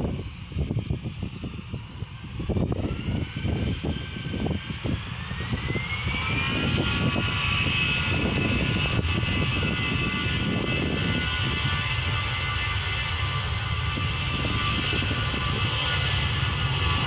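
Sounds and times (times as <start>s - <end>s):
jet engines spooling up: 0.0s - 17.0s.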